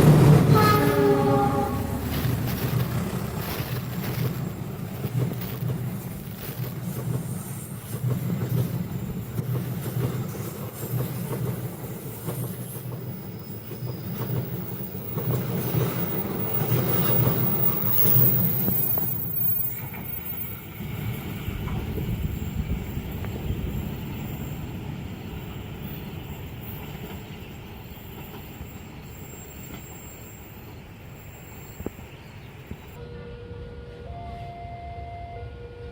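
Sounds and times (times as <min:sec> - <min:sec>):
train wheels rumbling on rails: 0:00.0 - 0:34.5.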